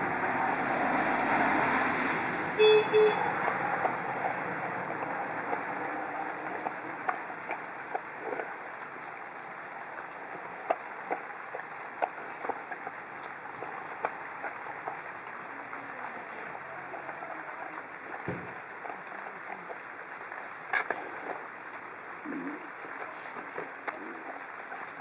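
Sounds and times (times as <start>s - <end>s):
dog crunching food: 3.3s - 15.9s, 16.5s - 25.0s.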